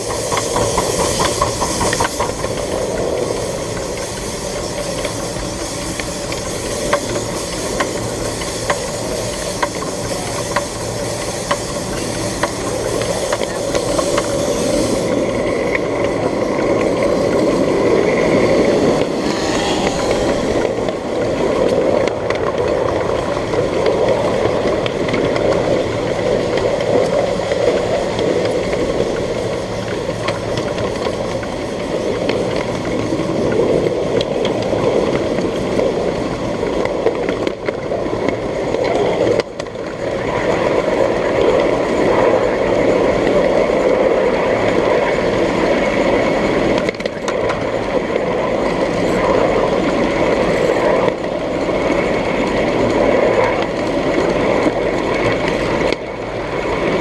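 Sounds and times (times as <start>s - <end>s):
miniature train running on track: 0.0s - 57.0s.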